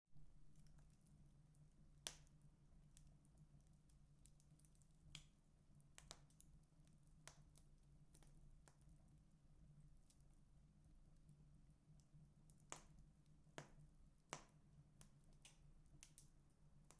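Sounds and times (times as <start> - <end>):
wood fire crackling: 0.4 - 16.9.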